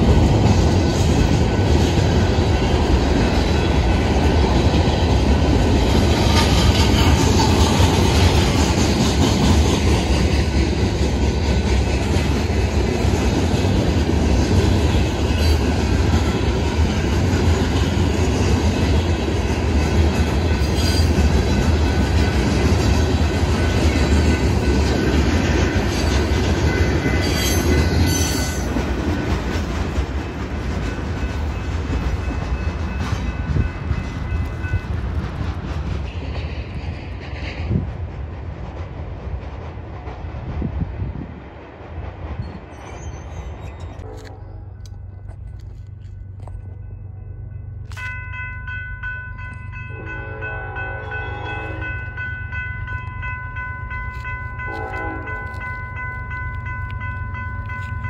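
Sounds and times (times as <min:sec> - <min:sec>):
freight train wheels clattering: 0:00.0 - 0:47.0.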